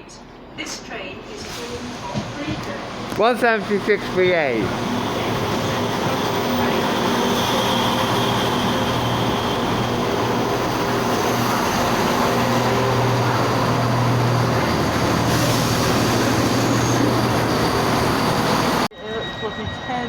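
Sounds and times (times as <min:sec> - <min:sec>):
diesel train engines droning: 0:00.0 - 0:20.0.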